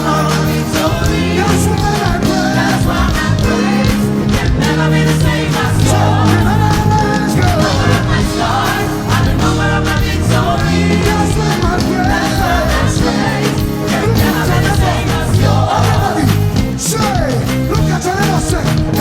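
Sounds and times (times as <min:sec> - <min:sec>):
bass guitar: 0:00.0 - 0:19.0
drums: 0:00.0 - 0:19.0
group singing: 0:00.0 - 0:19.0.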